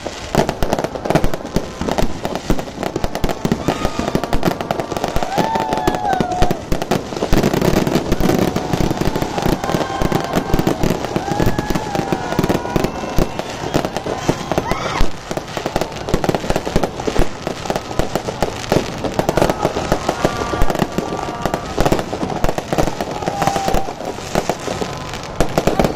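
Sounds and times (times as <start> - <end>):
fireworks bangs: 0.0 - 25.9
fireworks crackling and popping: 0.0 - 25.9.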